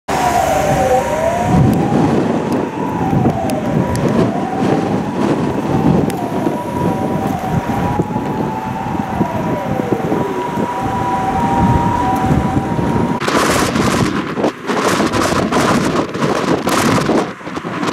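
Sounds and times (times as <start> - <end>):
storm wind gusting on microphone: 0.1 - 17.9.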